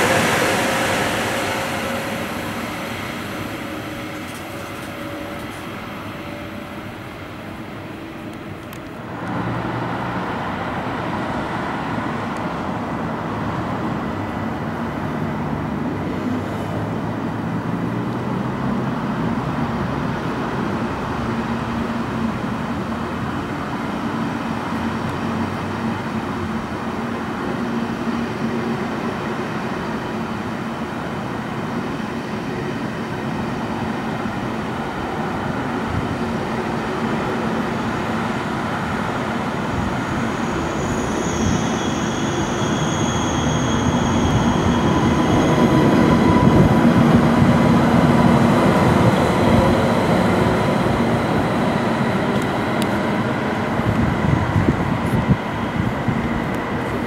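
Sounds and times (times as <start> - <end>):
high-speed train rumbling past: 0.0 - 57.0.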